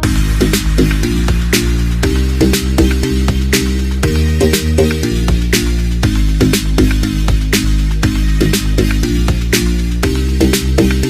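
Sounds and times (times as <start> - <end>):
deep sustained bass notes: 0.0 - 11.0
regular drum hits: 0.0 - 11.0.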